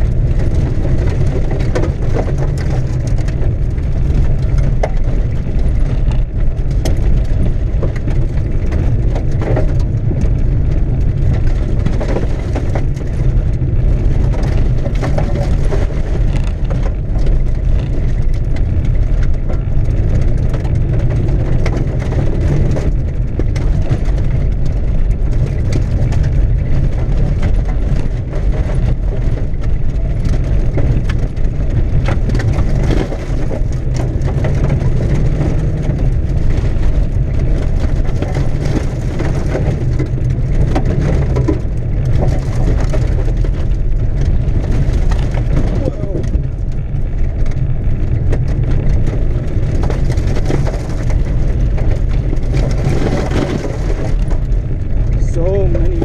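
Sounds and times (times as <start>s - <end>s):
engine and tyres rumbling on gravel: 0.0s - 56.0s
stones pelting car underside: 0.0s - 56.0s.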